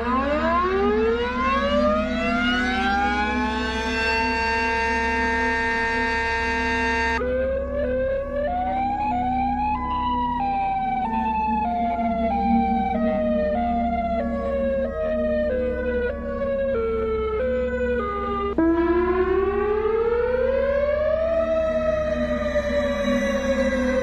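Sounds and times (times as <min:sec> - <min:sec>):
siren rising in pitch: 0:00.0 - 0:24.0
steady low hum: 0:00.0 - 0:24.0
wailing warning siren: 0:00.0 - 0:24.0.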